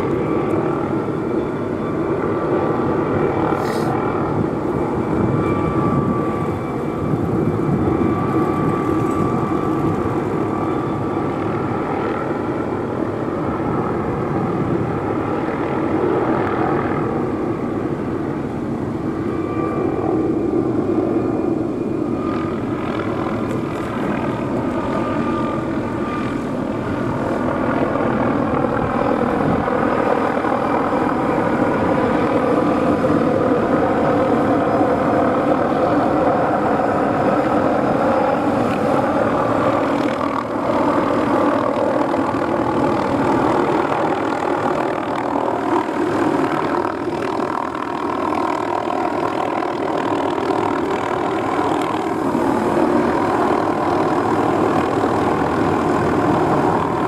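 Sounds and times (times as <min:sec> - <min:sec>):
helicopter rotor and turbine noise: 0:00.0 - 0:57.0
thin steady whine: 0:00.0 - 0:57.0.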